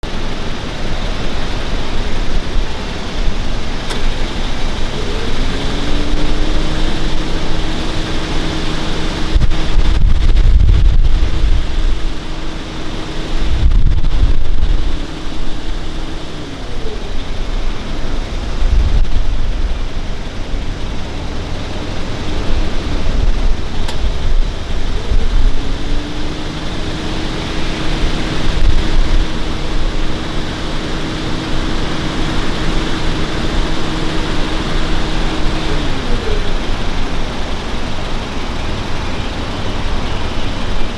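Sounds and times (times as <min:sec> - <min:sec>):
motor humming: 0:00.0 - 0:40.9
wind buffeting microphone: 0:00.1 - 0:40.9.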